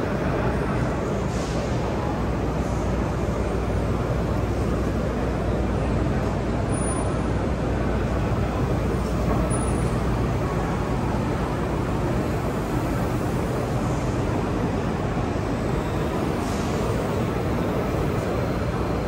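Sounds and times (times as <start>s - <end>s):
busy exhibition hall din: 0.0s - 19.0s.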